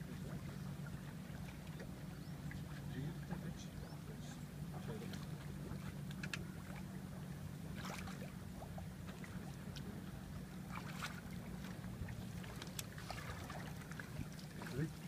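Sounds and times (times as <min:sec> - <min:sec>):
steady low hum: 0:00.0 - 0:15.0
water splashes: 0:00.0 - 0:15.0.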